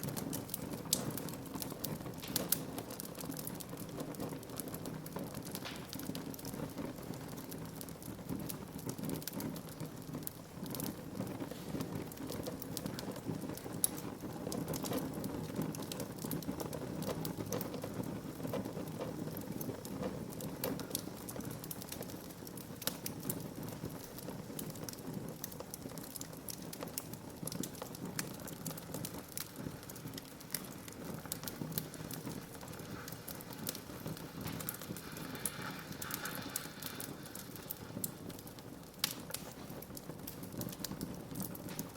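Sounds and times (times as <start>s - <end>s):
fire crackling in a fireplace: 0.0s - 41.9s.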